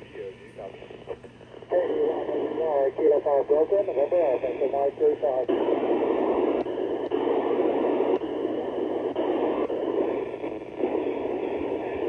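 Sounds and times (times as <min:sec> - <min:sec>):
radio receiver hiss and static: 0:00.0 - 0:12.0.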